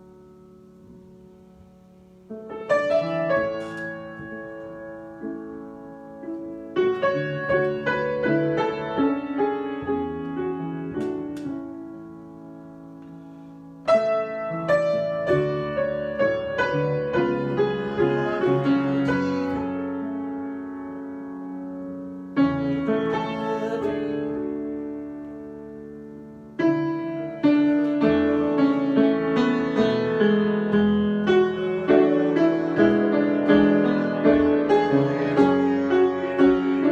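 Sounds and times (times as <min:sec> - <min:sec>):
piano improvisation: 0:00.0 - 0:36.9.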